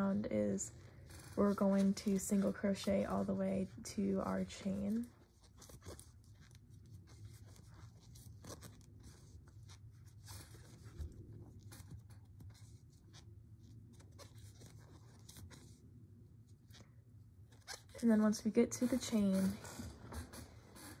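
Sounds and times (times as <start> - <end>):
crochet hook and yarn rustling: 0.0 - 15.8, 16.4 - 21.0
low steady hum: 0.0 - 21.0.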